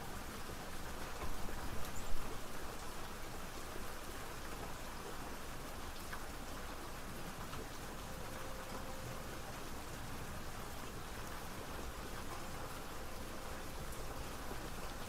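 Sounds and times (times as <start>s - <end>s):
rain patter on a surface: 0.0s - 15.0s.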